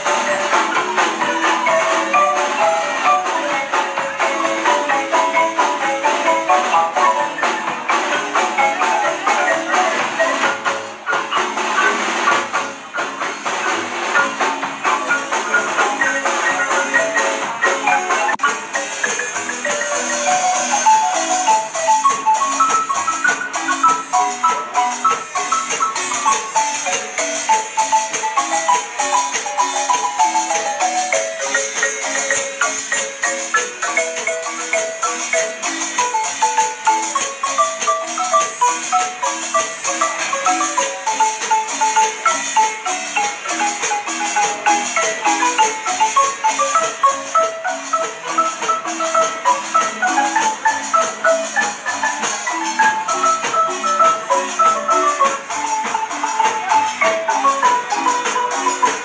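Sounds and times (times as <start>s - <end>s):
marimba played with mallets: 0.0s - 59.0s.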